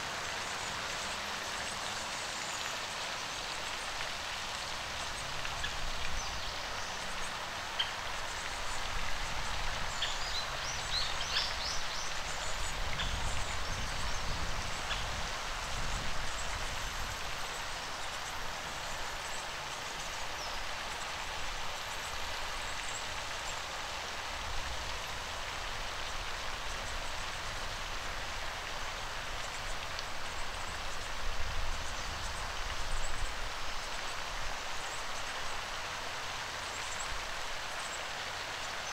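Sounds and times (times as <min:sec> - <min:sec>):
light rain on a pond: 0:00.0 - 0:38.9.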